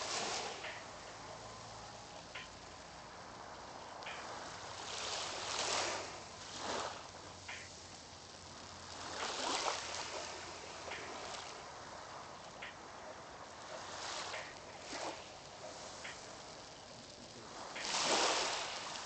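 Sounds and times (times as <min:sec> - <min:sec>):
small waves washing on beach: 0:00.0 - 0:19.0.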